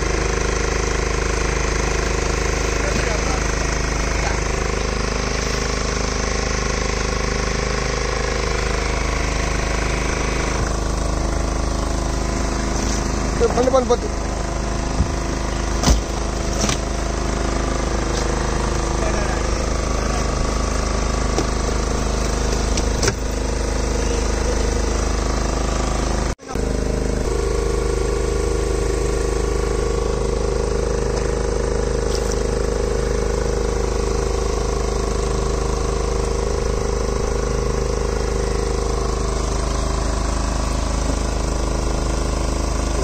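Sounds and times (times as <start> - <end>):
boat engine drone: 0.0 - 43.0.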